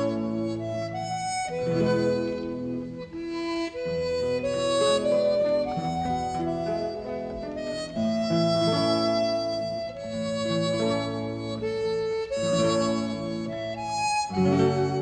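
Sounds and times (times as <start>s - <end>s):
harmonica playing chords: 0.0s - 15.0s.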